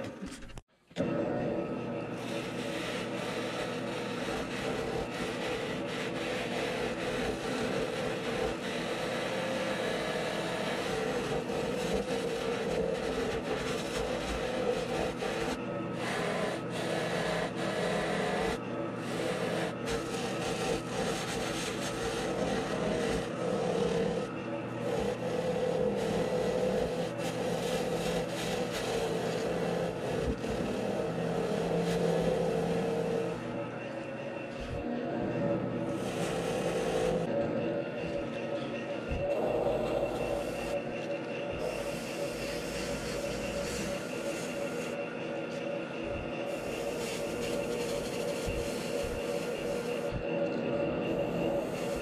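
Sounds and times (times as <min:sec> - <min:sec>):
lathe running: 0:00.0 - 0:52.0
scraper rasping on foam: 0:02.2 - 0:33.5, 0:35.9 - 0:37.3, 0:39.1 - 0:40.8, 0:41.5 - 0:45.0, 0:46.5 - 0:50.3, 0:51.1 - 0:52.0.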